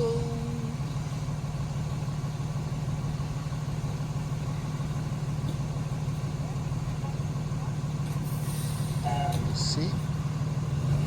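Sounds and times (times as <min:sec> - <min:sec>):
diesel bus engine idling: 0:00.0 - 0:11.0.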